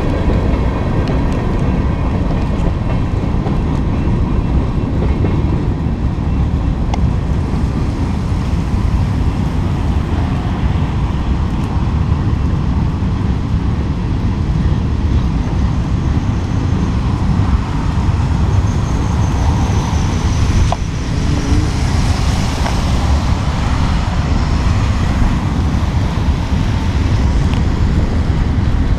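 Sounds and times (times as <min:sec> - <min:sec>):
freight train cars rumbling: 0:00.0 - 0:28.9.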